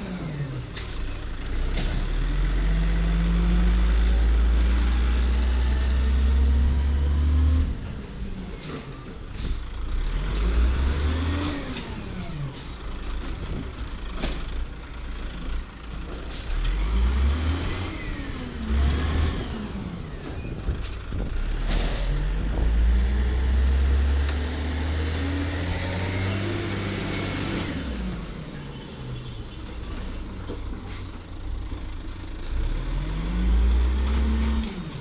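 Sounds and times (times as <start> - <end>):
garbage truck engine rumbling: 0.0 - 35.0.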